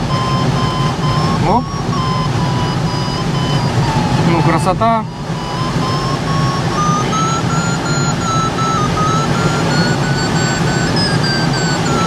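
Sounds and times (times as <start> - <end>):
electronic whistle changing pitch: 0.0 - 12.0
low cockpit rumble: 0.0 - 12.0.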